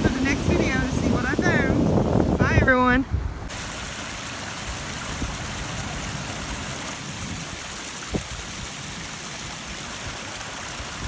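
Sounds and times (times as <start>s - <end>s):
water on a beach: 0.0s - 11.0s
wind: 0.0s - 11.0s.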